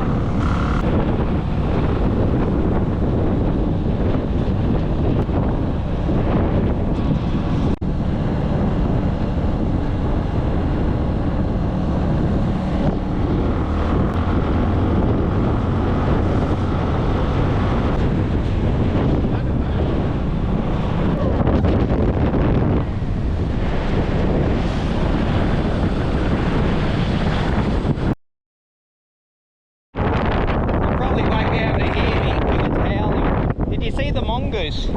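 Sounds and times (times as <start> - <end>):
wind buffeting microphone: 0.0 - 28.2, 30.0 - 34.9.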